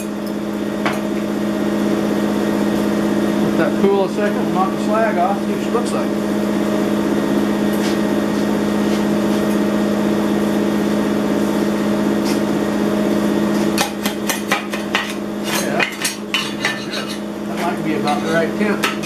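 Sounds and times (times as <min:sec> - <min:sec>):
welder electrical hum: 0:00.0 - 0:19.0.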